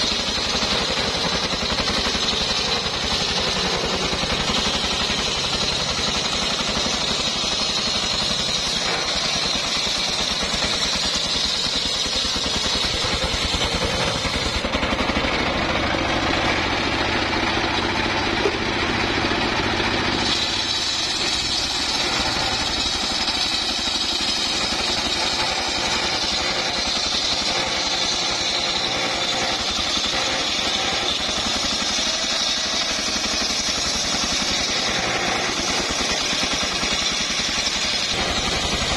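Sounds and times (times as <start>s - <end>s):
circular saw engine running: 0.0s - 38.9s
saw blade ripping through log: 0.0s - 38.9s.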